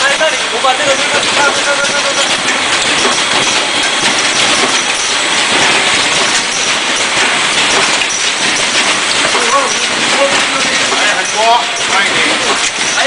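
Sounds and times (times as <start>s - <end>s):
packaging machine clattering: 0.0s - 13.0s.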